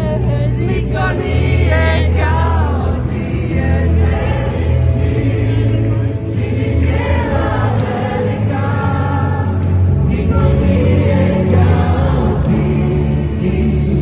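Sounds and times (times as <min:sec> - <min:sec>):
bass line: 0:00.0 - 0:14.0
crowd singing with live band: 0:00.0 - 0:14.0
people clapping along: 0:00.0 - 0:14.0.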